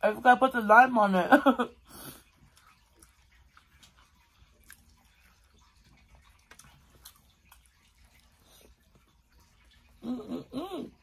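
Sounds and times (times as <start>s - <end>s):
faint chewing: 2.1s - 11.0s.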